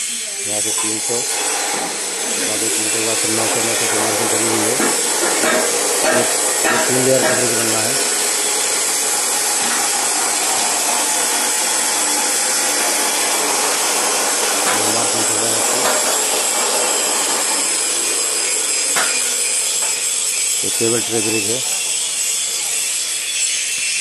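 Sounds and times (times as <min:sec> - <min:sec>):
metalworking power tools: 0:00.0 - 0:24.0.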